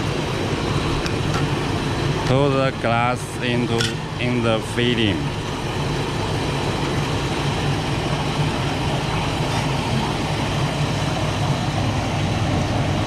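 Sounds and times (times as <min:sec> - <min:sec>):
glass washing machine running: 0:00.0 - 0:13.0.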